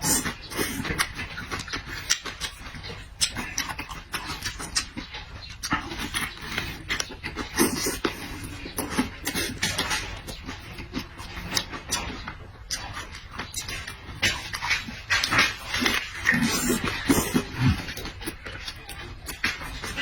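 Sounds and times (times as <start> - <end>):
person chewing and smacking food: 0.0 - 20.0
wet mouth clicks: 0.0 - 20.0.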